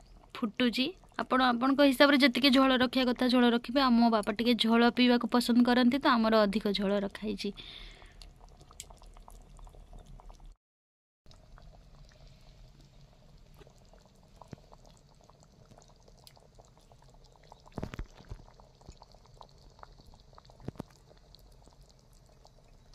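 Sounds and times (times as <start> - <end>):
curry bubbling in a pot: 0.0 - 10.6, 11.3 - 22.9.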